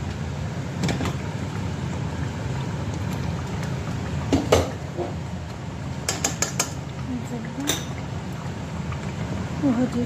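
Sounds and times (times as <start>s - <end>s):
sauce bubbling in a pot: 0.0s - 10.0s.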